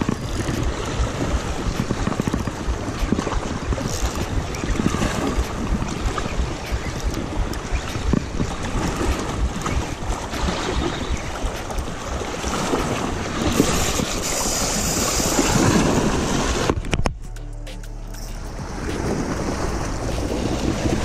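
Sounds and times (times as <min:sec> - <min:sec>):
wind buffeting microphone: 0:00.0 - 0:17.4, 0:18.4 - 0:21.0
sea waves: 0:00.0 - 0:21.0.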